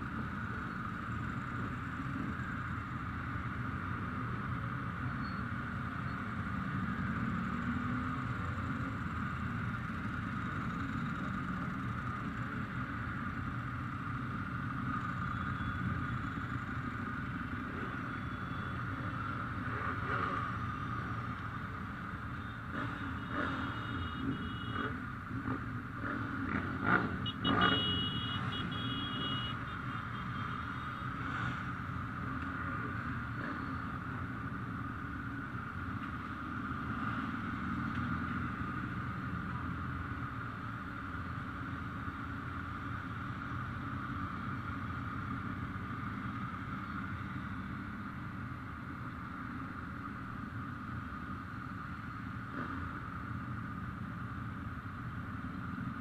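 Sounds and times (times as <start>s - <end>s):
motorcycle engines droning: 0.0s - 56.0s.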